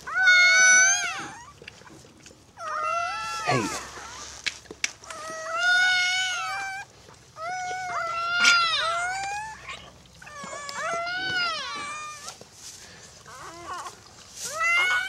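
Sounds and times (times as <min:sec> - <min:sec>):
puppy crying: 0:00.0 - 0:01.7, 0:02.6 - 0:04.4, 0:05.0 - 0:12.4, 0:13.3 - 0:15.0.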